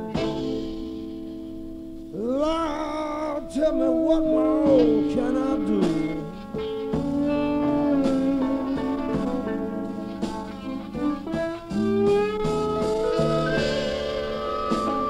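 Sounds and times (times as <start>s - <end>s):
blues band playing: 0.0s - 15.0s
lead guitar bending notes: 0.0s - 15.0s.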